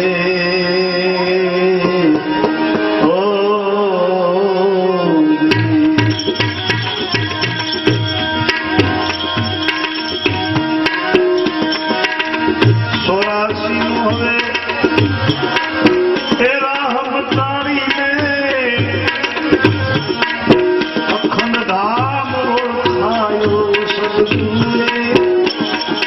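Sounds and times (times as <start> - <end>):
sliding melodic lead instrument: 0.0 - 26.0
tabla rhythm: 0.0 - 26.0.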